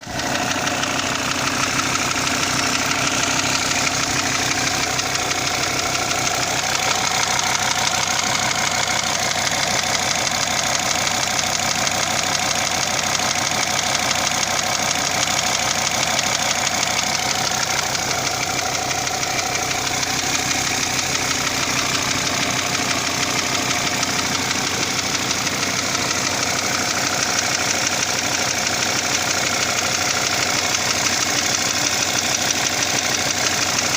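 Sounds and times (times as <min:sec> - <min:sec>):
diesel engine running: 0:00.0 - 0:33.9
rapid engine knock: 0:00.0 - 0:33.9.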